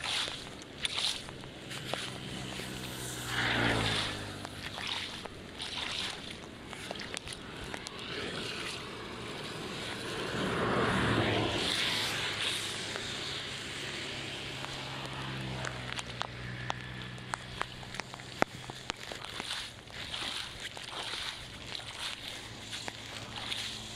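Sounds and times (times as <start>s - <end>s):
flood water rushing: 0.0s - 23.9s.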